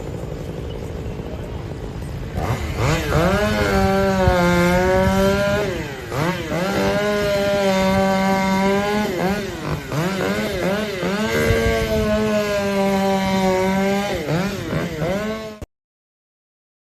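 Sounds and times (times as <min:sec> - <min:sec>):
two-stroke saw engine revving: 0:00.0 - 0:15.7.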